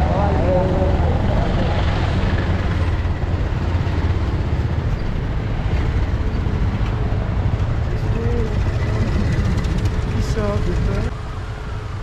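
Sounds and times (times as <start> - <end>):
vehicle rumble and road noise: 0.0 - 12.0.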